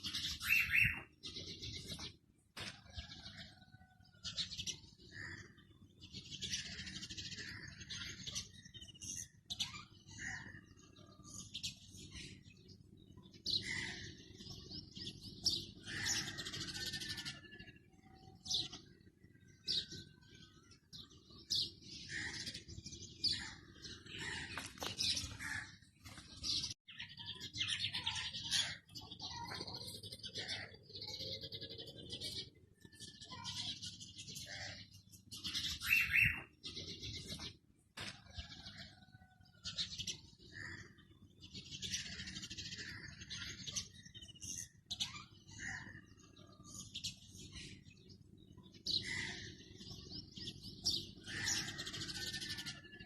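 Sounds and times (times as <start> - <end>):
parakeets chirping and chattering: 4.2 - 39.1, 39.7 - 53.0.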